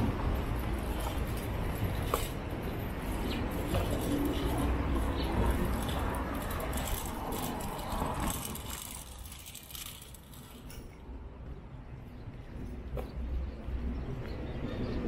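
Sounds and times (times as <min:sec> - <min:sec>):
quiet outdoor background: 0:00.0 - 0:15.0
vehicle passing on road: 0:00.0 - 0:15.0.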